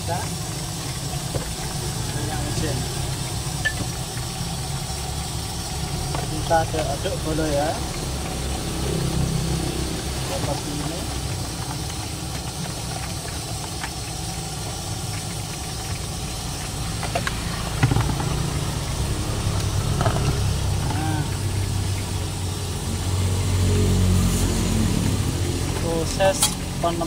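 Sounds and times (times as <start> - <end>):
gas burner rumbling: 0.0 - 27.0.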